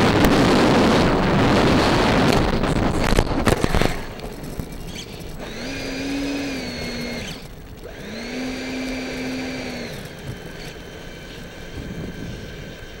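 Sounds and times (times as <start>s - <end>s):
steady rushing noise: 0.0s - 13.0s
model plane motor whining: 1.6s - 13.0s.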